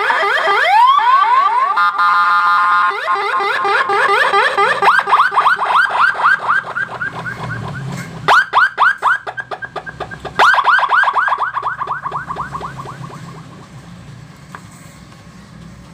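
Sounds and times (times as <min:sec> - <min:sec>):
electronic siren falling chirps: 0:00.0 - 0:13.7.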